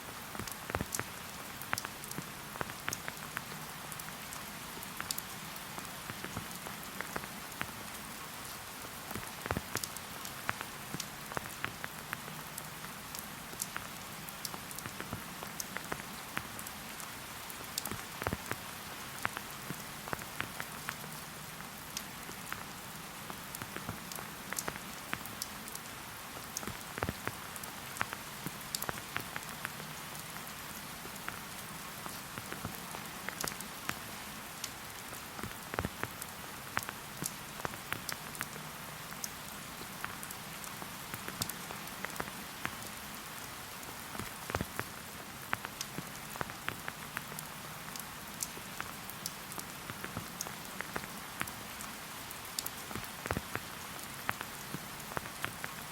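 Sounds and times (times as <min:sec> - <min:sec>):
close raindrops striking: 0:00.0 - 0:55.9
steady rain patter: 0:00.0 - 0:55.9.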